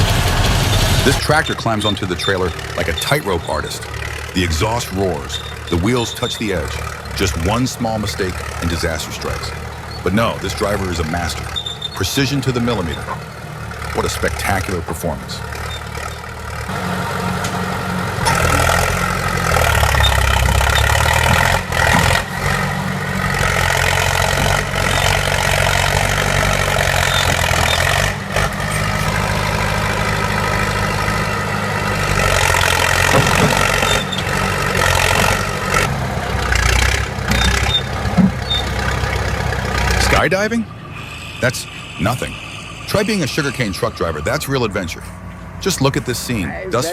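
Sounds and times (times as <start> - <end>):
heavy vehicle engine running: 0.0 - 46.9.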